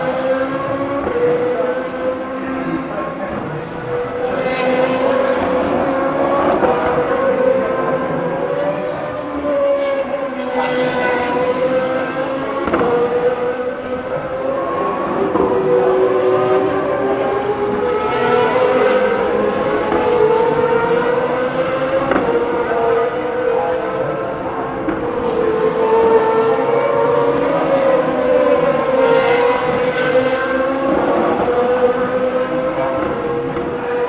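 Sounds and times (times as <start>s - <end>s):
race car engines screaming: 0.0s - 34.0s.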